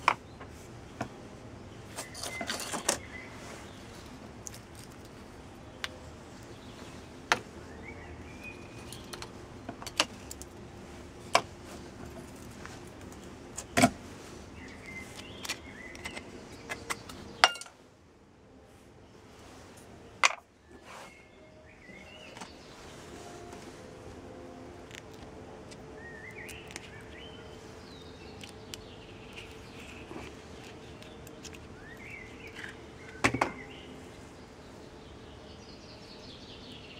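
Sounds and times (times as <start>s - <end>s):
steady background noise: 0.0s - 36.9s.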